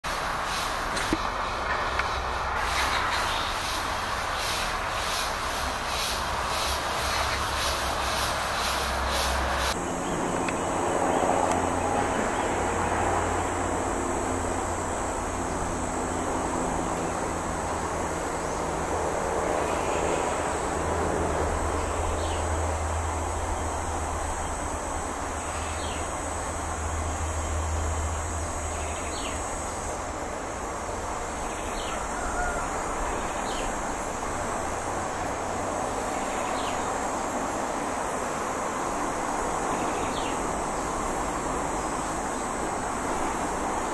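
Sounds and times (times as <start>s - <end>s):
steady rushing background noise: 0.0s - 43.9s
high insect drone: 0.1s - 43.9s.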